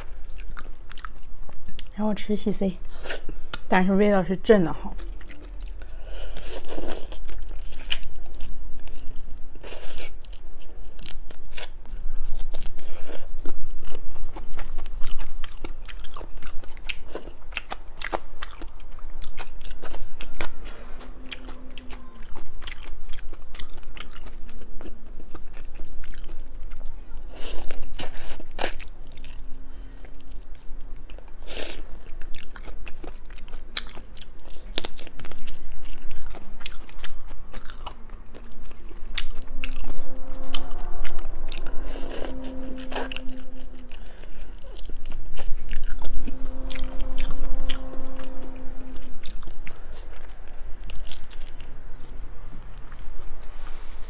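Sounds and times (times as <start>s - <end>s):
person chewing and crunching: 0.0s - 2.0s, 4.8s - 47.8s, 49.0s - 53.2s.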